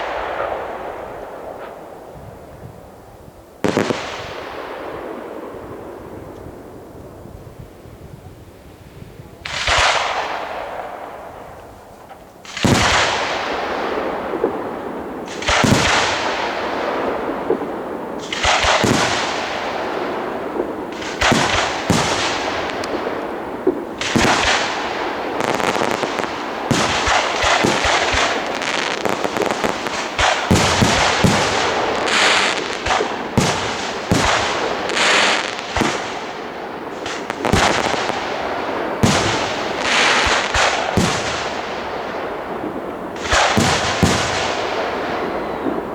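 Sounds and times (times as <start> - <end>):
fireworks bursting with hiss: 0.0 - 6.7, 7.3 - 45.9.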